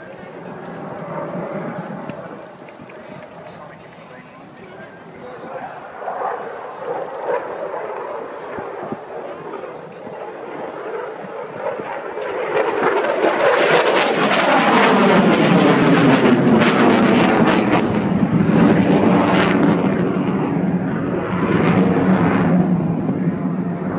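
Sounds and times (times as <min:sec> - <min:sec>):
jet flying past: 0:00.0 - 0:23.9.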